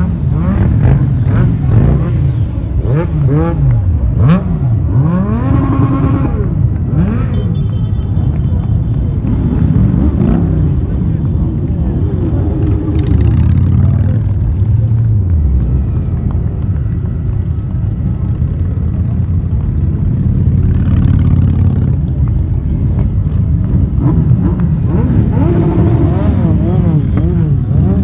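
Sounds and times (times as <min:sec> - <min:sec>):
motorcycles revving: 0:00.0 - 0:28.0
motorcycles riding past: 0:00.0 - 0:28.0.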